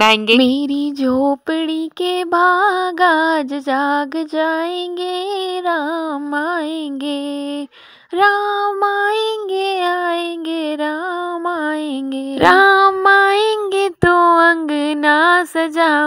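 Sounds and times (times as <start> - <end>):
woman singing devotional song: 0.0 - 16.0.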